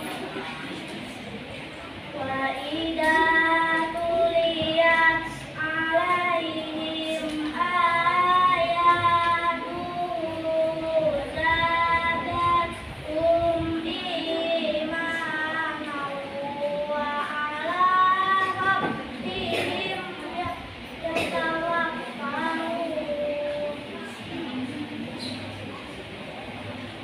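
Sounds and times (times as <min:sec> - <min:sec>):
girl reciting melodically: 0:00.0 - 0:25.1.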